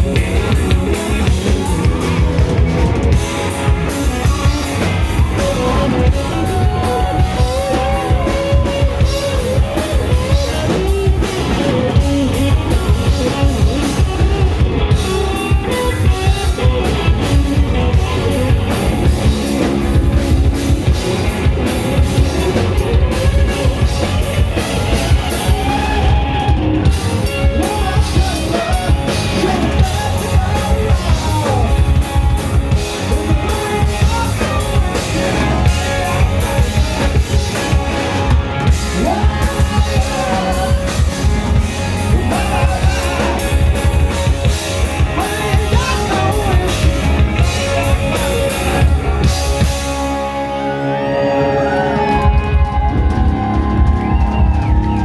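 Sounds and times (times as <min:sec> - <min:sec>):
drum kit beat: 0:00.0 - 0:51.1, 0:51.9 - 0:55.0
person singing: 0:00.0 - 0:52.9
electric guitar: 0:00.0 - 0:55.0.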